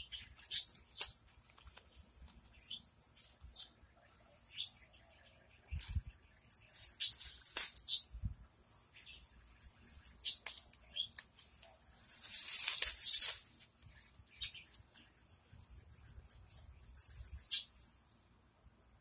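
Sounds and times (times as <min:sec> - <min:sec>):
leaves rustling as weeds are pulled: 0:00.0 - 0:03.4, 0:05.6 - 0:18.1.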